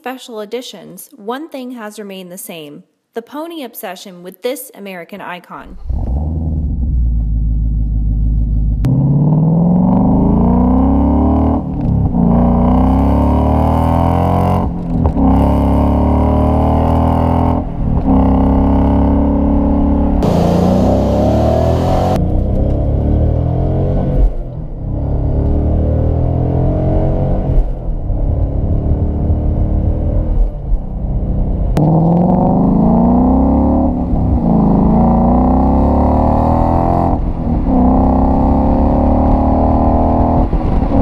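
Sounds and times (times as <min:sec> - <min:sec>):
car engine accelerating hard: 0:05.8 - 0:41.0.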